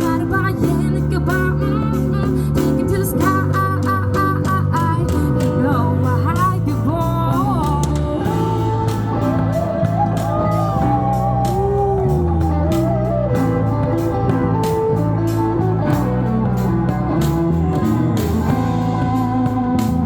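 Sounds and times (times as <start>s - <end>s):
bass guitar: 0.0s - 20.0s
electric guitar lead: 0.0s - 20.0s.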